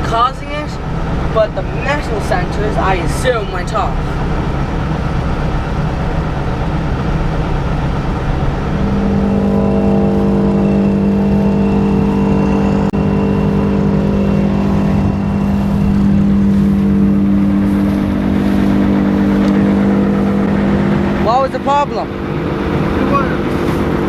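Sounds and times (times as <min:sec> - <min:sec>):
forage harvester machine drone: 0:00.0 - 0:24.0.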